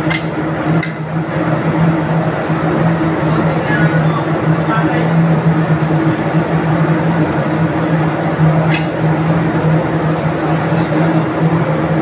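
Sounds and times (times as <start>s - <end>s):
marine diesel engine drone: 0.0s - 12.0s.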